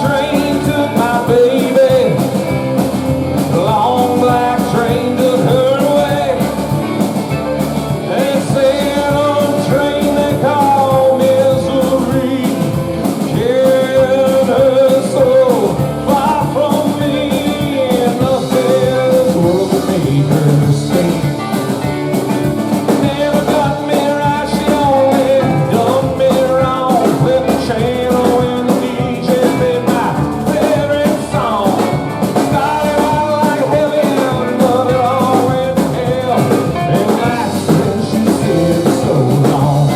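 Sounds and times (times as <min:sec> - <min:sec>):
person singing: 0:00.0 - 0:39.9
rock band playing: 0:00.0 - 0:39.9
steady drum beat: 0:00.0 - 0:39.9.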